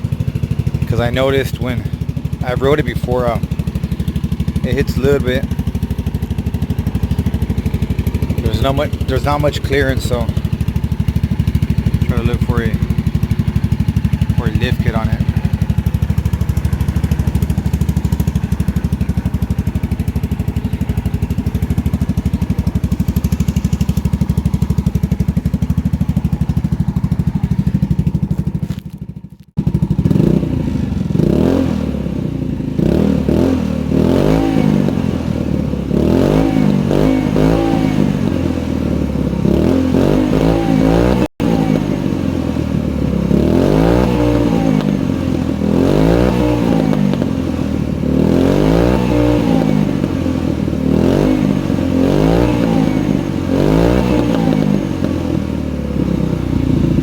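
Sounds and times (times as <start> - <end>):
engine idling and revving: 0.0 - 57.0.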